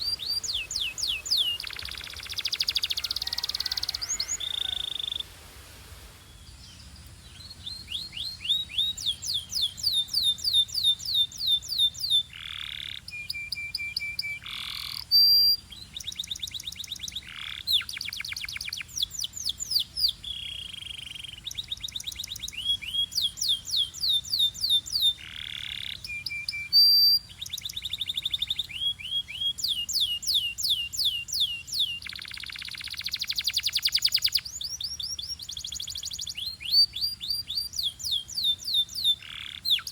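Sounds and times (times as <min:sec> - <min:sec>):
canary singing trills: 0:00.0 - 0:05.3, 0:06.4 - 0:39.9.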